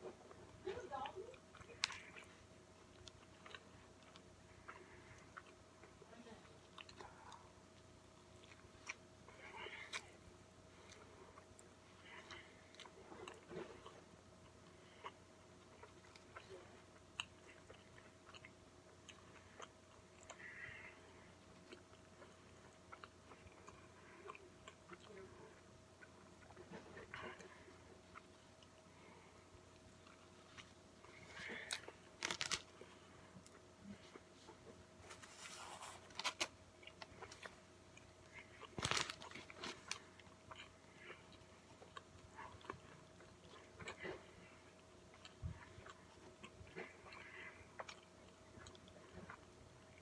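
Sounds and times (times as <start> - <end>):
person chewing: 0.0 - 50.0.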